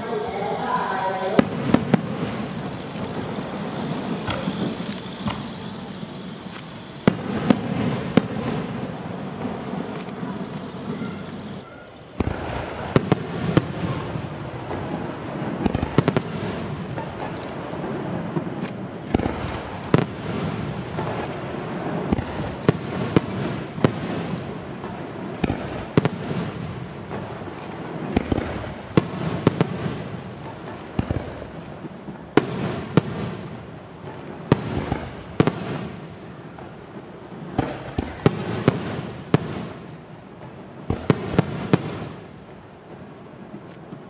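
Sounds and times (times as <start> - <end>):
fireworks bursting: 0.0 - 44.0.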